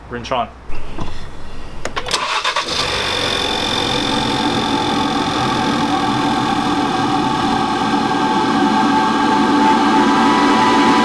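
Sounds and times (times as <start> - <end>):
car engine idling: 0.8 - 10.8
car engine starting: 1.0 - 11.0.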